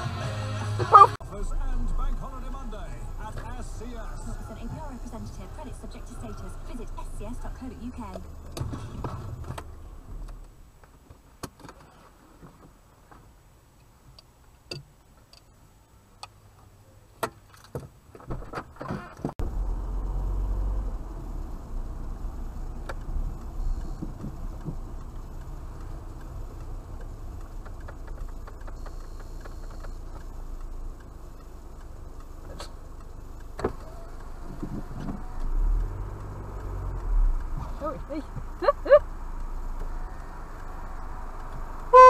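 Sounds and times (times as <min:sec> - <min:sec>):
car engine idling: 0:00.0 - 0:17.2, 0:19.4 - 0:42.0.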